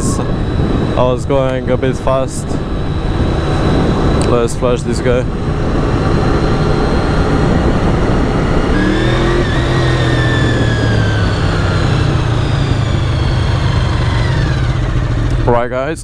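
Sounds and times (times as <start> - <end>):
motorcycle engine running: 0.0 - 16.0
wind noise: 0.0 - 16.0.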